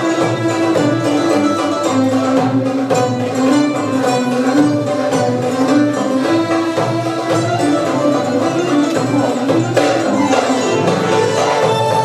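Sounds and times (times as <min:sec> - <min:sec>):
instrumental ensemble with bowed strings: 0:00.0 - 0:12.0.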